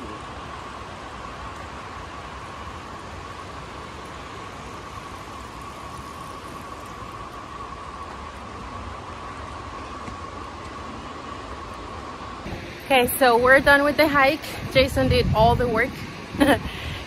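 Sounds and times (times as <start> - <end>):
constant high hum: 0.0 - 17.0.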